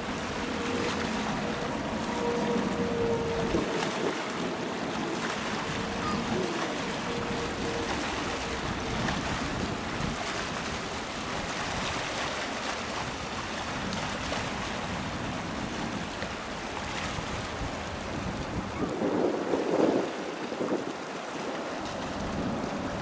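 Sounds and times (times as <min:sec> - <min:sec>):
waves lapping: 0:00.0 - 0:23.0
wind on microphone: 0:00.0 - 0:23.0.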